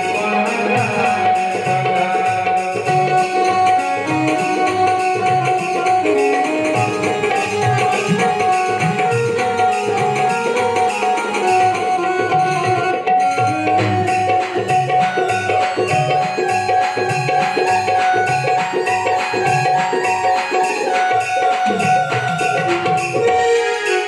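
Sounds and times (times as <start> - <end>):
melodic accompaniment: 0.0 - 24.0
tabla playing a rhythm: 0.0 - 24.0.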